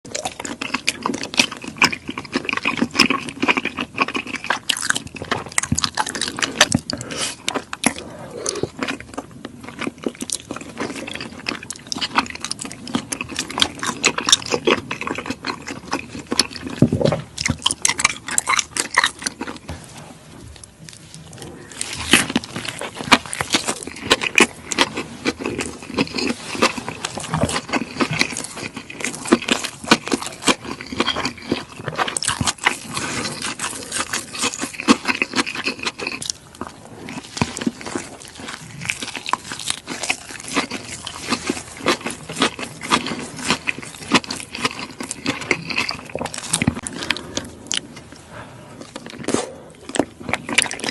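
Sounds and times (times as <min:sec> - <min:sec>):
person chewing crunchy food: 0:00.1 - 0:50.9.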